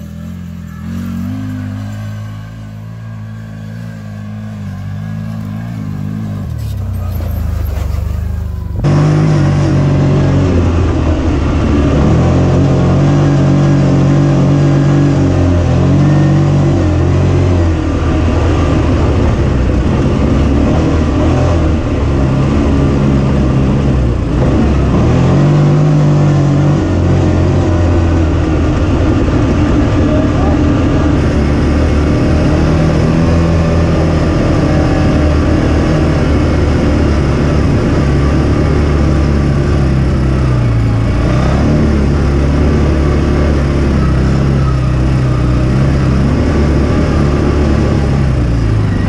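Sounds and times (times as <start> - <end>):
engine heard from inside cab: 0.0 - 49.0
utility vehicle engine running: 0.0 - 49.0.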